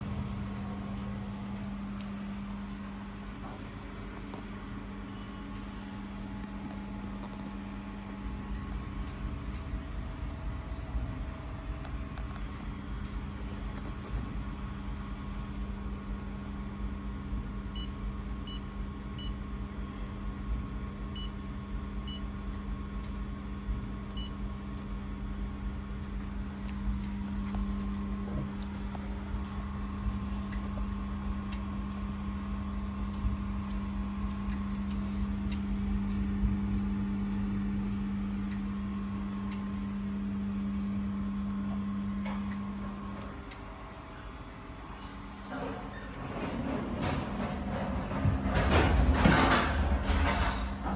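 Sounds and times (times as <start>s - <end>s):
laser welding machine humming: 0.0s - 46.1s.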